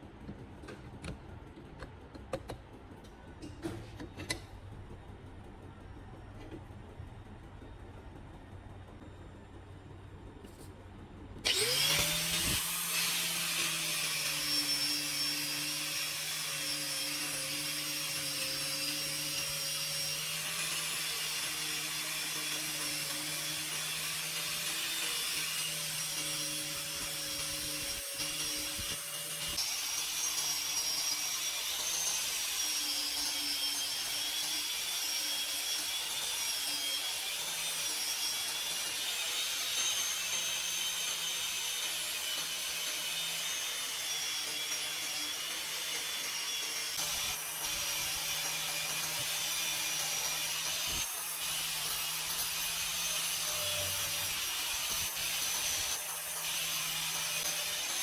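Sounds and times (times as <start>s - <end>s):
angle grinder grinding: 11.4s - 58.0s.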